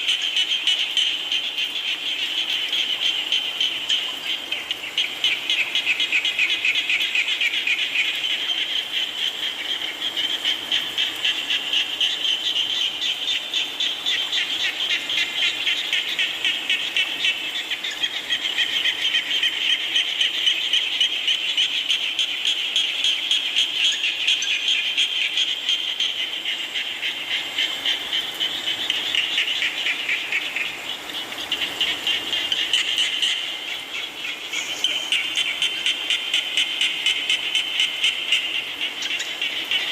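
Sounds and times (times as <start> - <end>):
frogs chorus trilling: 0.0 - 39.9.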